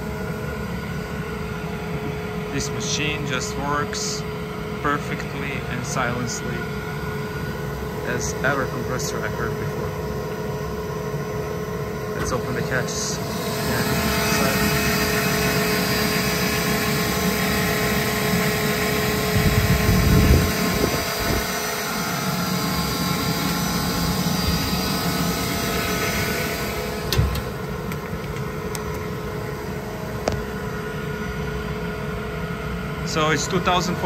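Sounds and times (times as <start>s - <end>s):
air compressor humming and whining: 0.0s - 34.0s.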